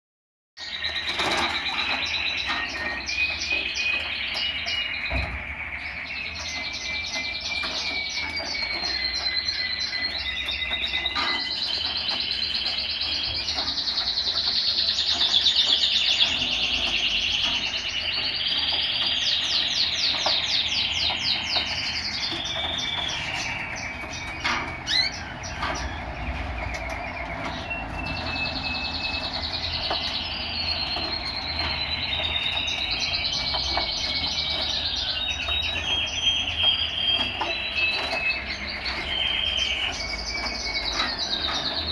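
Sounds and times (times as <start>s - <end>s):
canary singing trills: 0.6s - 41.9s.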